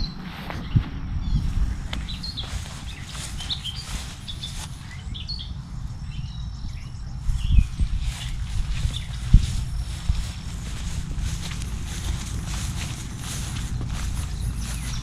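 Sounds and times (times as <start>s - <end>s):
low wind-like rumble: 0.0s - 15.0s
small birds chirping: 0.0s - 15.0s.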